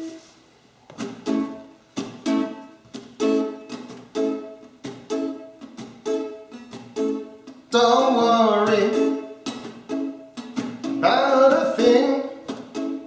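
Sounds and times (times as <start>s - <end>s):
strummed ukulele chords: 1.0s - 13.0s.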